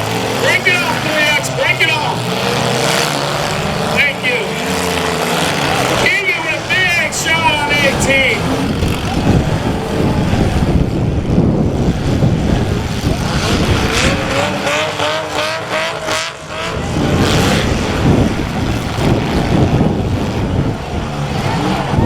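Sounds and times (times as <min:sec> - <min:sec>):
car engines revving hard: 0:00.0 - 0:22.0
engine rapid even pulsing: 0:00.0 - 0:22.0.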